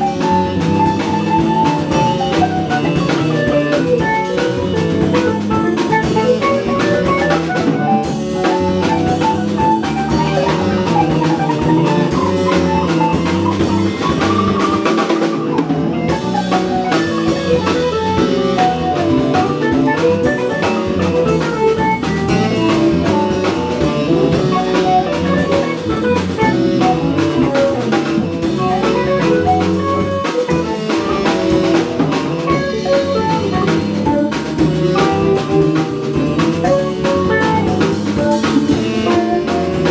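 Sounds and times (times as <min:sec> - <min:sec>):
drum kit: 0:00.0 - 0:39.9
live band playing instrumental: 0:00.0 - 0:39.9
saxophone: 0:00.0 - 0:39.9.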